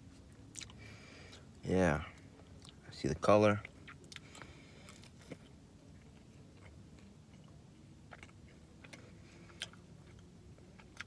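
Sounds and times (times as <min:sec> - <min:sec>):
faint chewing: 0:00.1 - 0:01.5, 0:02.1 - 0:02.8, 0:03.6 - 0:11.0.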